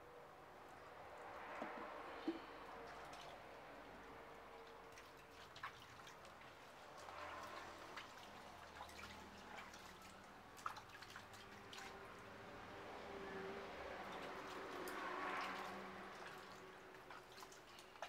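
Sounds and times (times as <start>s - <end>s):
water splashing in a basin: 1.2s - 18.0s.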